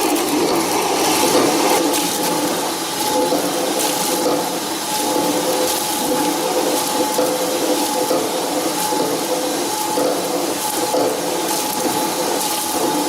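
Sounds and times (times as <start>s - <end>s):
fruit-processing machinery running: 0.0s - 13.0s
liquid rushing and splashing: 0.0s - 13.0s
steady mechanical hum: 0.0s - 13.0s.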